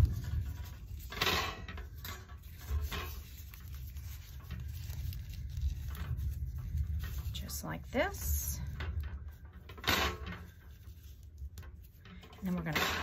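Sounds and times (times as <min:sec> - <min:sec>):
low steady hum: 0:00.0 - 0:13.0
plastic strips crinkling: 0:00.0 - 0:13.0.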